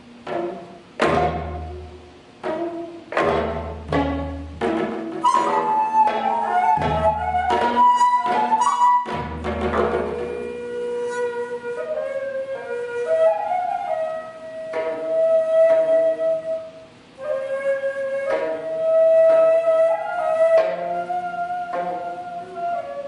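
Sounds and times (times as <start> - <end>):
bamboo flute melody: 0.0 - 23.0
plucked string accompaniment: 0.0 - 23.0.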